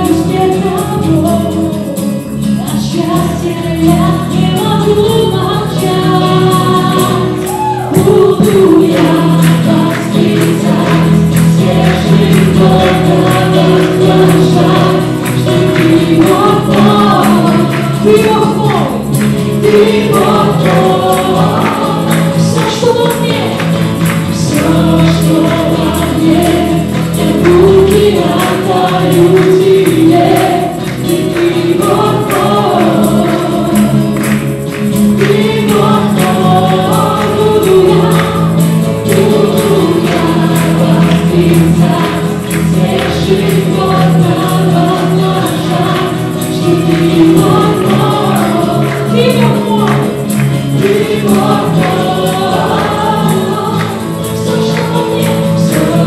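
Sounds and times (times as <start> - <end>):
acoustic and electric guitars: 0.0 - 56.0
keyboard: 0.0 - 56.0
voices singing together: 0.0 - 56.0.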